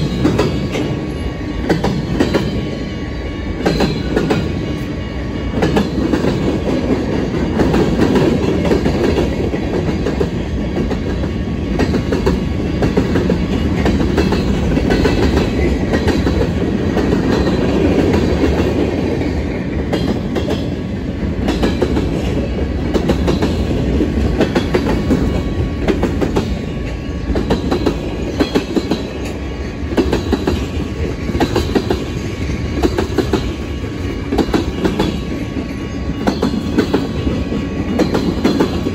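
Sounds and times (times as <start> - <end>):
freight train rumbling past: 0.0 - 38.9
wheels clicking over rail joints: 5.5 - 38.9.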